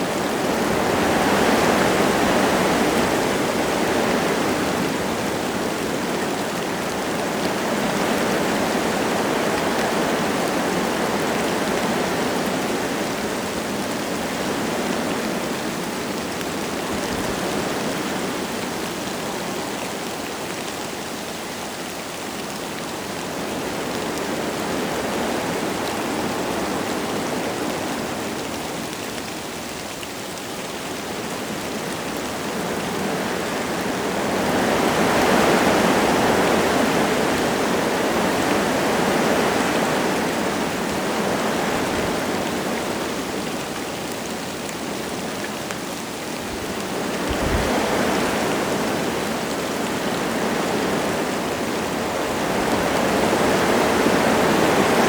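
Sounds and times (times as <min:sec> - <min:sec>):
light rain falling: 0:00.0 - 0:55.0
wind gusting through trees: 0:00.0 - 0:55.0.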